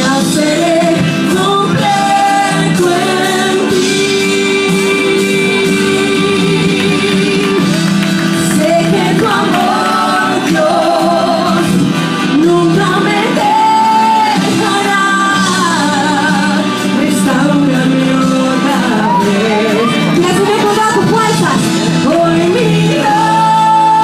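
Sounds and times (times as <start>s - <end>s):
instrumental accompaniment: 0.0s - 24.0s
woman singing into microphone: 0.0s - 24.0s.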